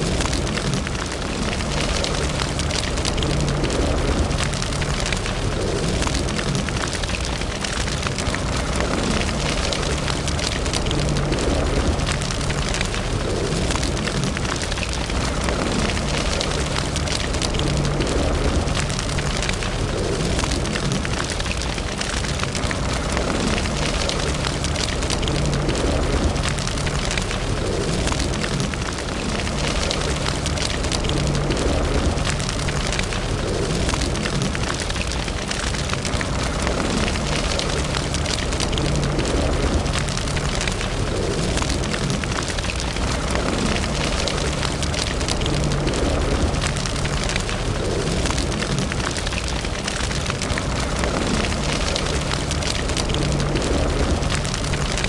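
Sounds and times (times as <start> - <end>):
wood fire burning: 0.0 - 55.0.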